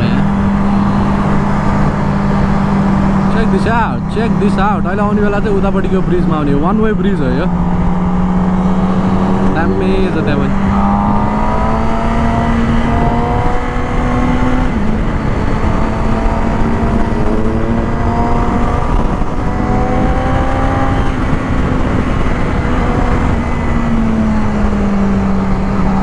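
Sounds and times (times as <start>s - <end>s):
motorcycle engine running: 0.0s - 26.0s
wind rushing on microphone: 0.0s - 26.0s.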